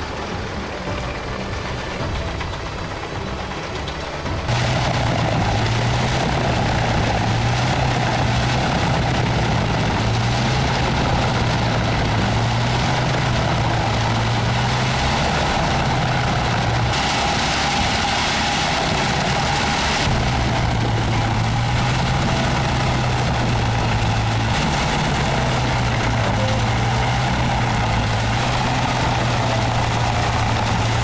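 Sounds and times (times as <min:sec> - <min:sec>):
heavy machine engine humming: 0:00.0 - 0:31.0
hissing grinding noise: 0:00.0 - 0:31.0.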